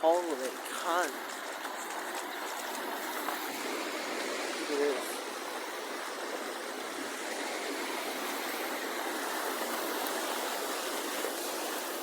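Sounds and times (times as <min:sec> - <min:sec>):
floodwater rushing in creek: 0:00.0 - 0:12.0.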